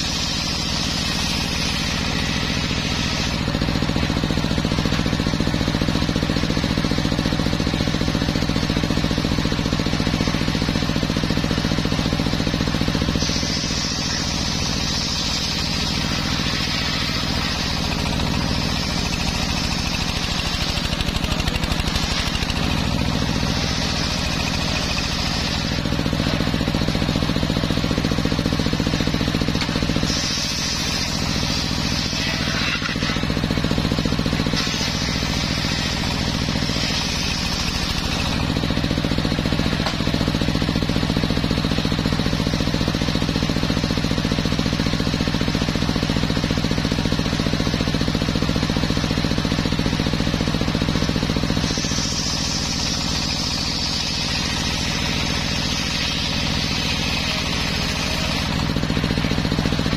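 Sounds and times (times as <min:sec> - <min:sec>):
saw blade cutting hiss: 0:00.0 - 0:05.7, 0:06.3 - 0:42.8, 0:50.9 - 0:59.4
sawmill low drone: 0:00.0 - 0:59.9.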